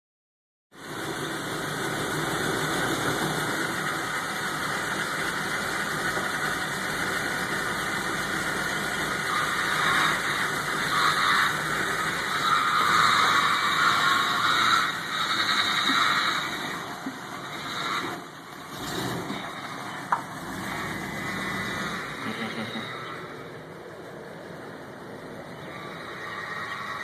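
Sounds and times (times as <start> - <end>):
car engine idling: 0.7 - 27.0.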